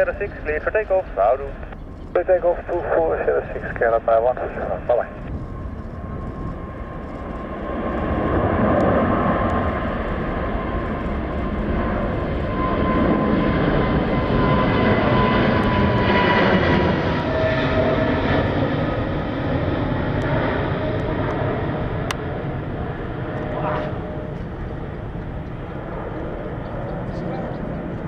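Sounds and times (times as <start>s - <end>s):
jet engines at takeoff: 0.0s - 28.0s.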